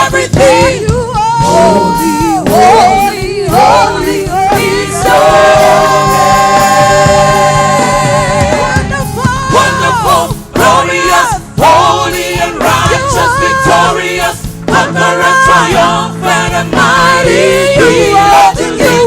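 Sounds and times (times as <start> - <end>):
band accompaniment: 0.0 - 19.0
gospel singing: 0.0 - 19.0.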